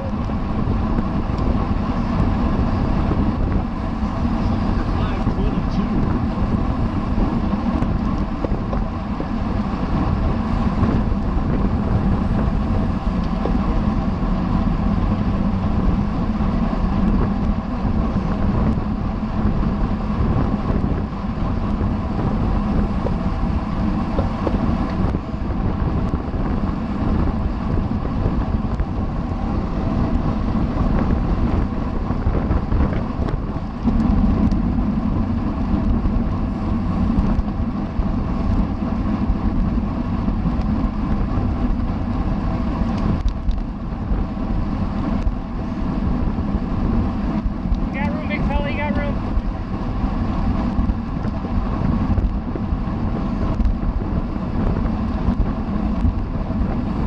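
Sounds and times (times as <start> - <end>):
road and tyre rumble: 0.0 - 57.0
wind rushing over microphone: 0.0 - 57.0.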